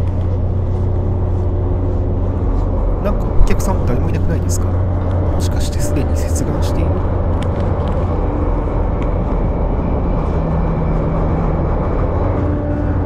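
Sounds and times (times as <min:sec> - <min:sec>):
faint hum: 0:00.0 - 0:13.0
ship engines rumbling: 0:00.0 - 0:13.0.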